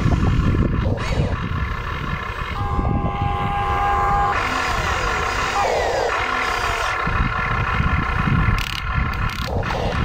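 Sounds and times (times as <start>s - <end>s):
toy excavator motors whining: 0.0s - 1.6s, 2.2s - 10.0s.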